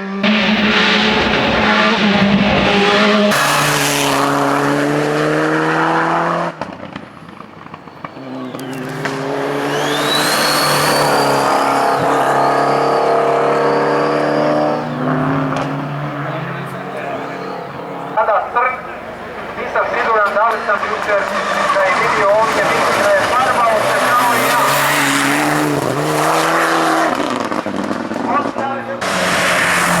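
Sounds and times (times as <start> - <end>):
high engine whine: 0.0 - 27.6
racing car engines revving: 0.0 - 30.0.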